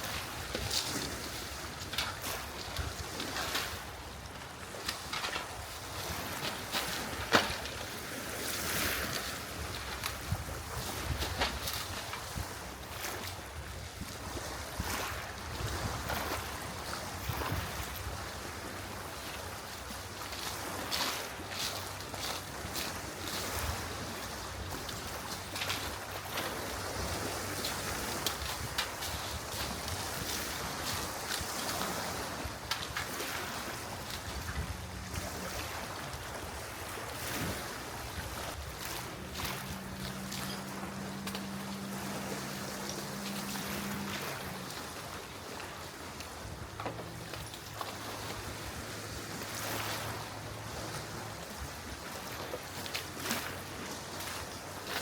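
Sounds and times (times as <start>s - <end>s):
small waves washing ashore: 0.0s - 55.0s
wind rumbling on microphone: 0.0s - 55.0s.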